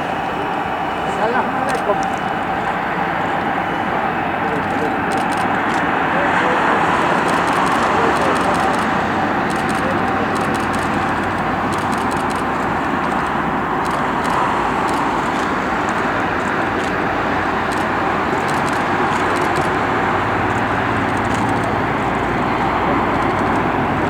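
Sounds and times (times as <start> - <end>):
steady engine roar: 0.0 - 24.0.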